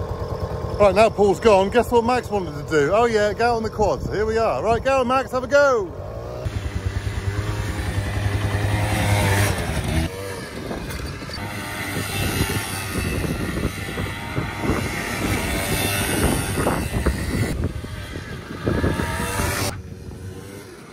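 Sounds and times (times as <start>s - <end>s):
quad bike engine: 0.0s - 20.9s.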